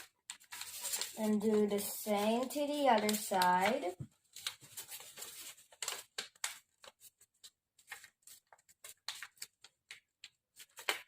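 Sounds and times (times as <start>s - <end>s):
paper folding and crinkling: 0.0s - 11.0s.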